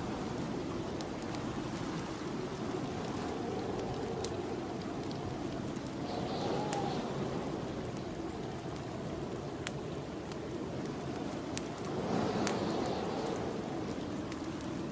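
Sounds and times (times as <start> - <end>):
fireplace fire crackling: 0.0 - 14.9
snowstorm wind blowing: 0.0 - 14.9.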